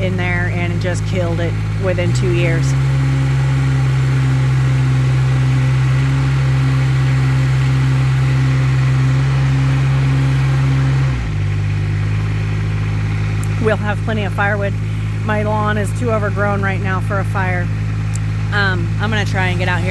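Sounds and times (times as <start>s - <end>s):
heavy machine engine running: 0.0s - 19.9s.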